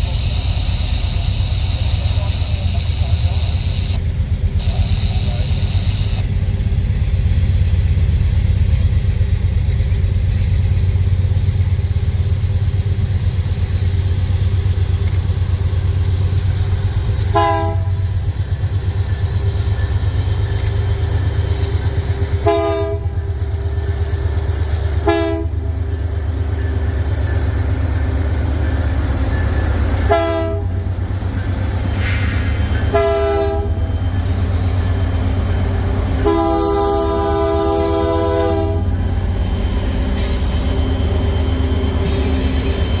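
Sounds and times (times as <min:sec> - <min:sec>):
freight train rumbling past: 0:00.0 - 0:43.0.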